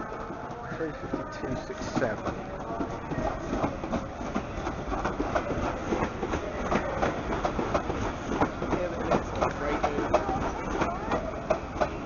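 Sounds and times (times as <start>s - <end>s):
train low rumble: 0.0s - 12.0s
train wheels clacking over rail joints: 0.0s - 12.0s.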